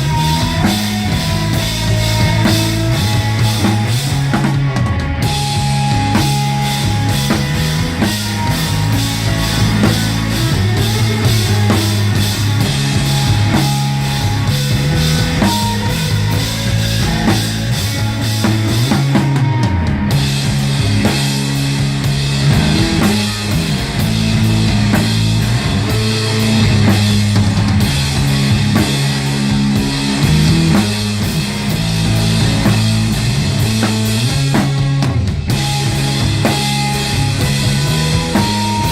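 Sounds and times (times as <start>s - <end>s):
bass line: 0.0s - 38.9s
drum kit beat: 0.0s - 38.9s
electric guitar: 0.0s - 38.9s.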